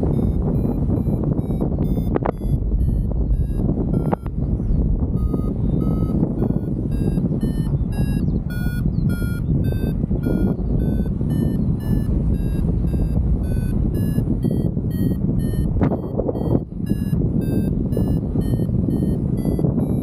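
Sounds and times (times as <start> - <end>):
variometer beeping: 0.0 - 20.0
wind rushing over microphone: 0.0 - 20.0.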